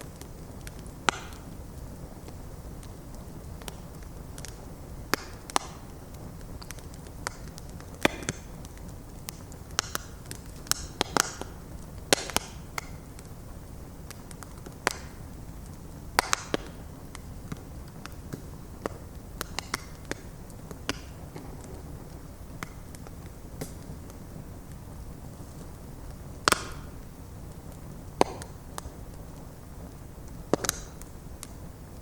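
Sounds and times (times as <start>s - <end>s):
rumble of flames: 0.0s - 32.0s
wood crackling and popping: 0.0s - 32.0s.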